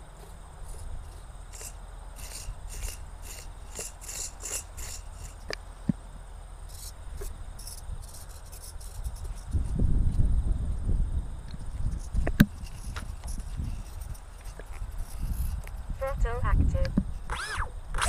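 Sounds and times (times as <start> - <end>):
insects chirping: 0.0 - 18.0
low wind rumble: 0.0 - 18.0.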